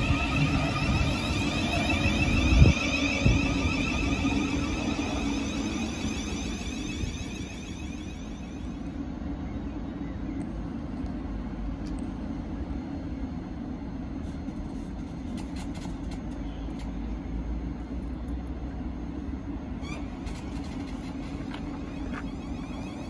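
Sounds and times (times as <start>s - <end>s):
train low hum: 0.0s - 23.0s.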